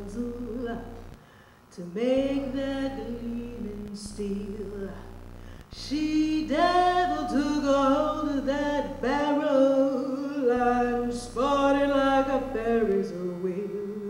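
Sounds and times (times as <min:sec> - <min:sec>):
woman singing: 0:00.0 - 0:01.1, 0:01.7 - 0:05.1, 0:05.7 - 0:14.0.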